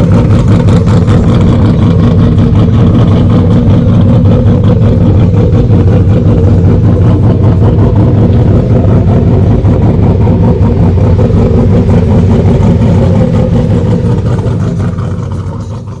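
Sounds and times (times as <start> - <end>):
turbocharged truck engine running: 0.0 - 16.0.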